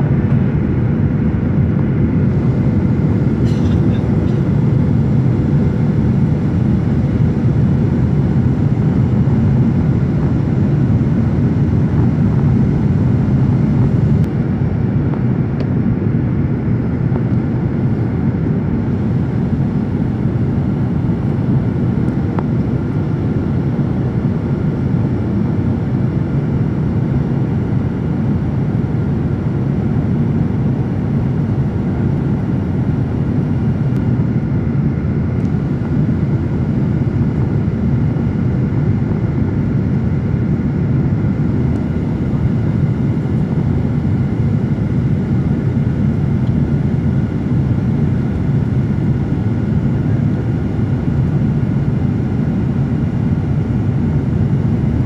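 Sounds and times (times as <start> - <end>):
jet airliner cabin noise: 0.0 - 55.0.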